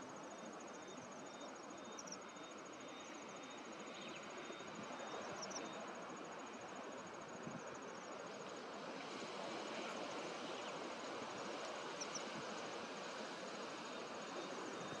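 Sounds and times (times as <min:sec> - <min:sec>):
insects chirping in trills: 0:00.0 - 0:15.0
steady hiss: 0:00.0 - 0:15.0.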